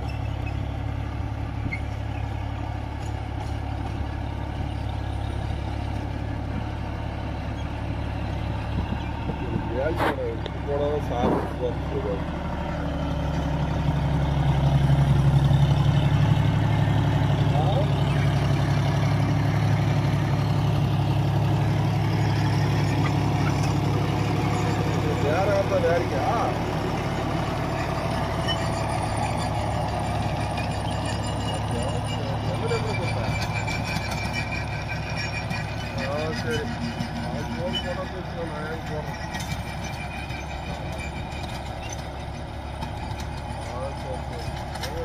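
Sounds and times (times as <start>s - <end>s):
tractor diesel engine under load: 0.0s - 45.0s
rotary tiller churning soil: 7.4s - 45.0s.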